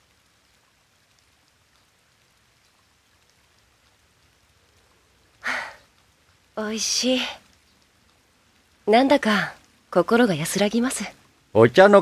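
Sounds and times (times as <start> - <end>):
faint steady hiss: 0.0 - 12.0
soft ticks: 0.1 - 9.8.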